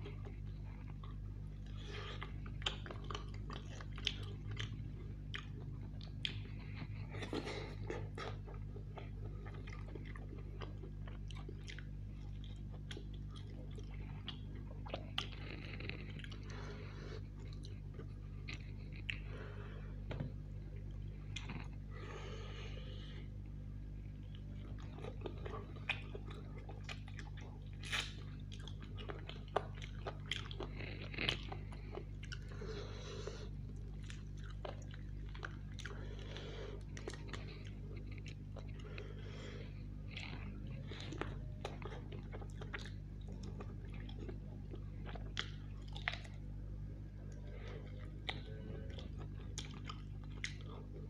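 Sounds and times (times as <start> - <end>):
chewing roast chicken: 0.0 - 51.0.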